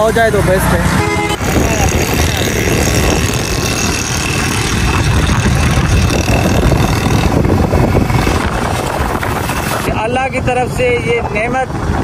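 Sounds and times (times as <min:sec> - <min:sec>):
motorcycle engine: 0:00.0 - 0:10.0.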